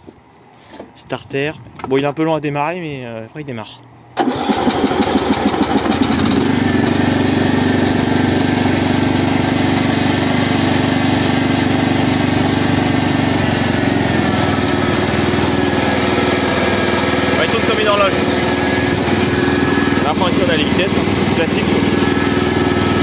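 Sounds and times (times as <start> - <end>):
lawn mower engine running: 4.2 - 23.0.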